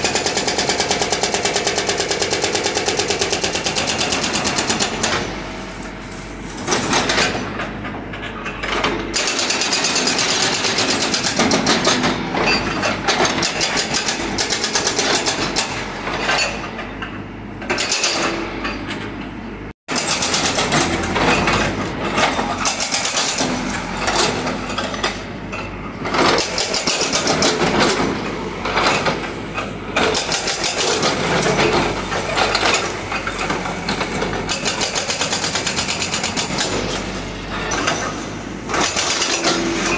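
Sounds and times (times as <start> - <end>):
hydraulic breaker hammering rubble: 0.0 - 5.9, 6.5 - 16.9, 19.9 - 39.9
diesel engine under load: 0.0 - 39.9.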